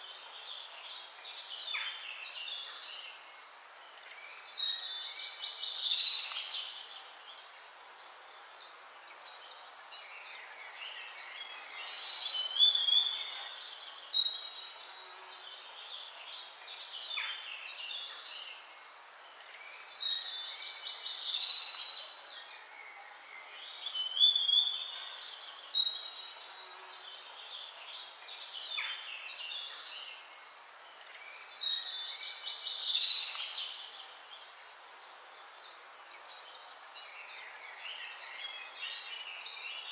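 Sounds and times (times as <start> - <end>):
faint steady background hiss: 0.0 - 39.9
songbirds chirping and trilling: 0.0 - 39.9.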